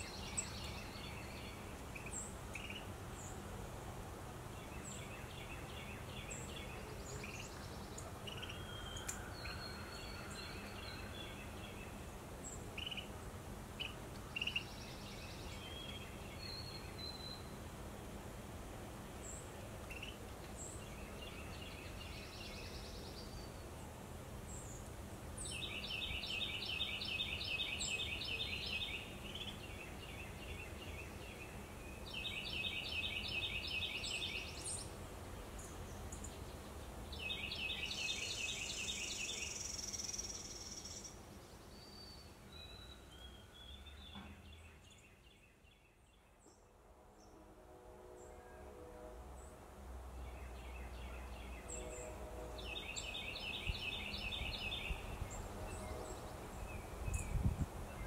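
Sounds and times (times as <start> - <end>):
songbirds trilling and chipping: 0.0 - 3.5, 4.4 - 17.7, 19.2 - 46.6, 50.2 - 58.0
outdoor background hiss: 0.0 - 58.0.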